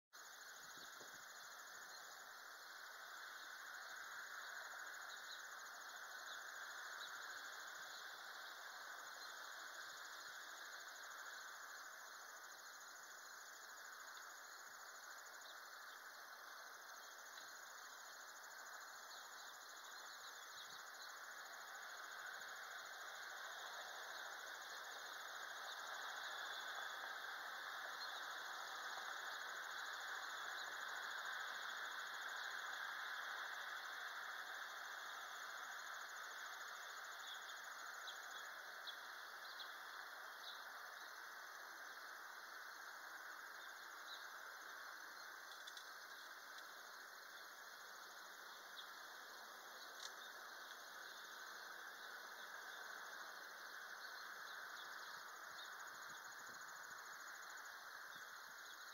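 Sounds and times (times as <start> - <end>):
outdoor hiss: 0.2 - 58.9.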